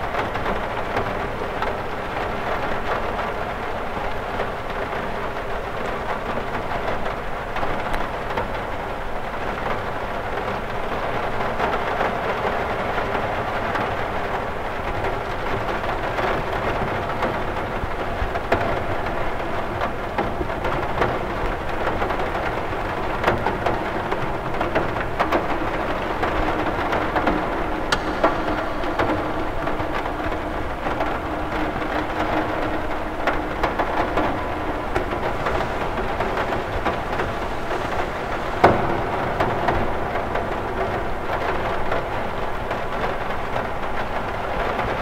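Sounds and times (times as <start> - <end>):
rain hissing: 0.0 - 45.0
raindrops tapping on window: 0.0 - 45.0.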